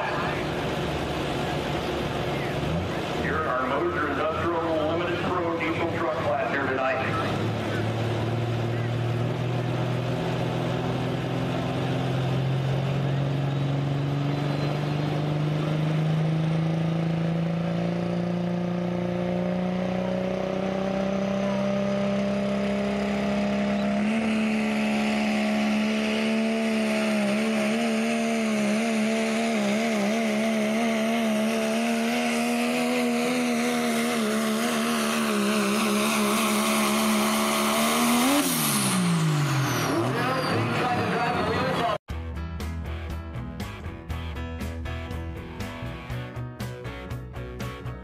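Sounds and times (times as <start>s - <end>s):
diesel truck engine revving: 0.0s - 42.1s.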